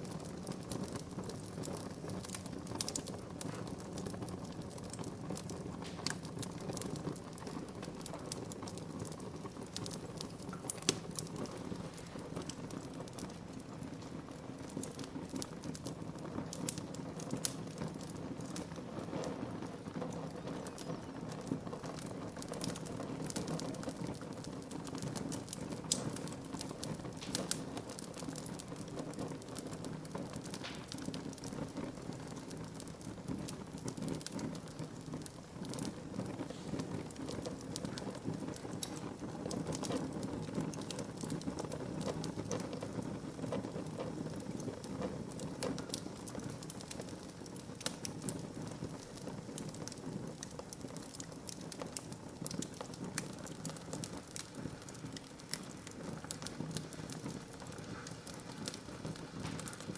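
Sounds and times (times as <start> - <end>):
wood crackling: 0.0 - 59.9
fire rushing: 0.1 - 59.9.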